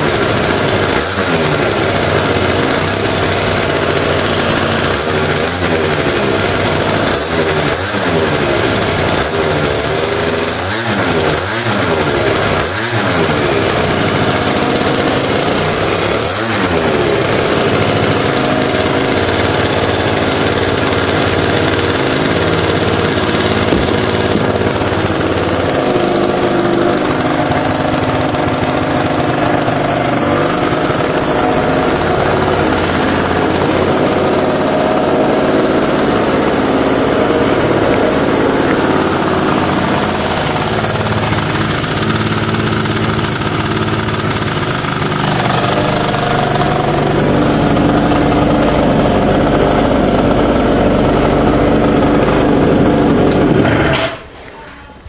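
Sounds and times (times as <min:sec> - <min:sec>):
scooter engine revving and idling: 0:00.0 - 0:54.3.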